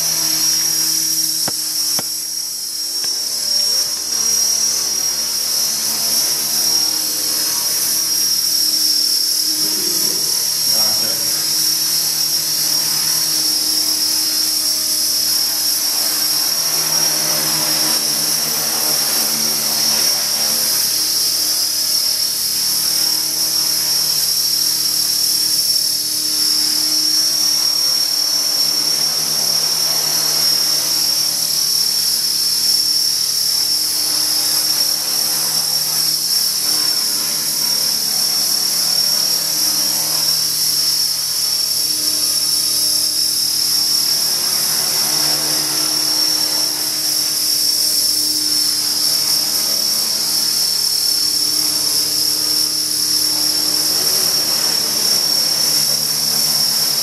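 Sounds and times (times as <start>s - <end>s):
model helicopter whine: 0.0s - 57.0s.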